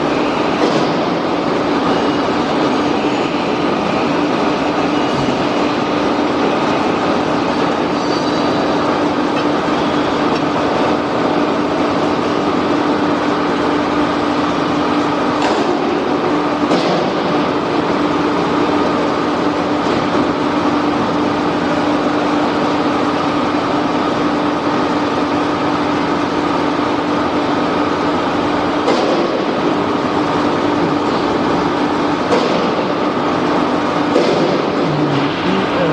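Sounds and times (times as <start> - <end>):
machinery low hum: 0.0 - 35.9.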